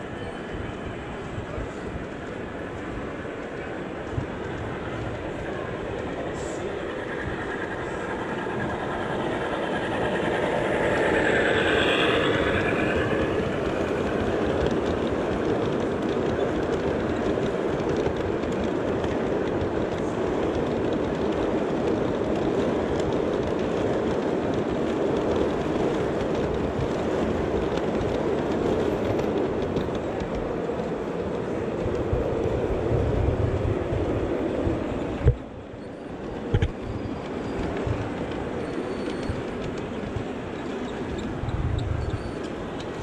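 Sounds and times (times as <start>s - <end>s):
model train rolling on track: 0.0s - 43.0s.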